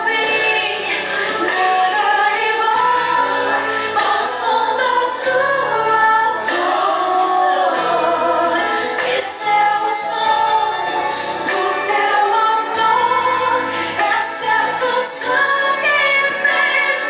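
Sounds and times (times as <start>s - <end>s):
musical accompaniment: 0.0s - 17.0s
woman singing: 0.0s - 17.0s.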